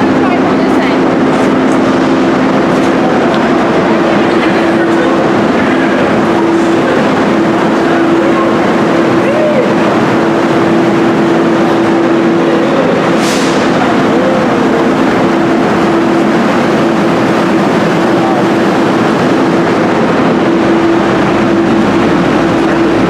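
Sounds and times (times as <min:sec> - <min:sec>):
idling rail equipment drone: 0:00.0 - 0:23.0.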